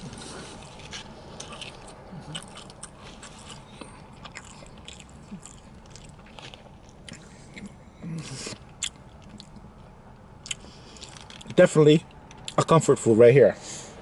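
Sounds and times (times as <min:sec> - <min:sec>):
person chewing food: 0:00.0 - 0:11.6.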